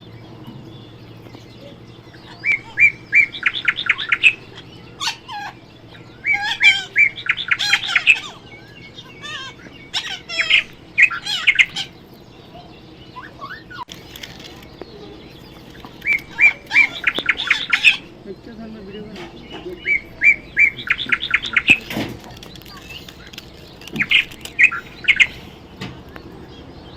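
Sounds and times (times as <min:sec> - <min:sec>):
parrot chirping: 0:00.0 - 0:26.9.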